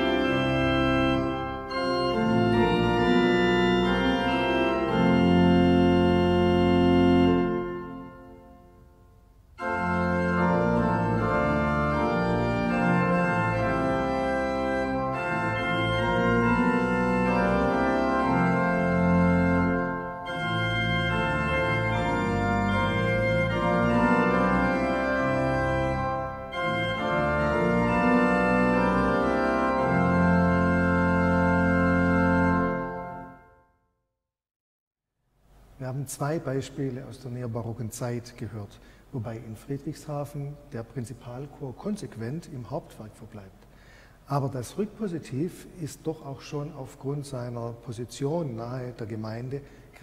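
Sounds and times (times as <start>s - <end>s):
pipe organ playing sustained chords: 0.0s - 33.7s, 35.5s - 50.0s.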